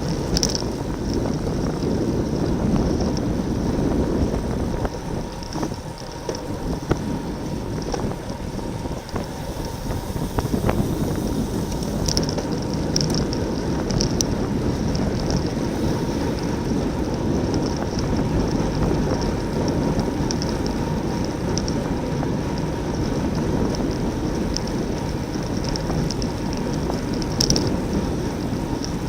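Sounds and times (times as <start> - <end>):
faint high flickering from bike: 0.0 - 29.0
road and tyre noise: 0.0 - 29.0
wind rushing over microphone: 0.0 - 29.0.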